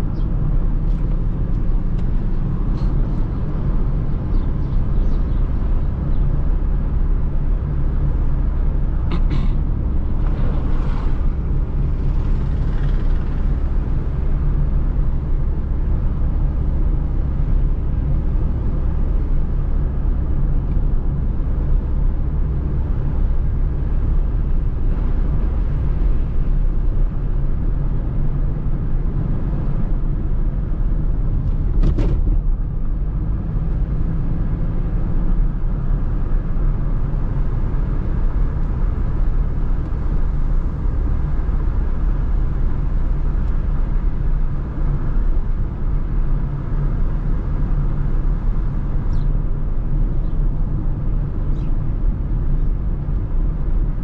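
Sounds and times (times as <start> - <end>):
car engine droning: 0.0 - 54.0
tyre and road rumble: 0.0 - 54.0.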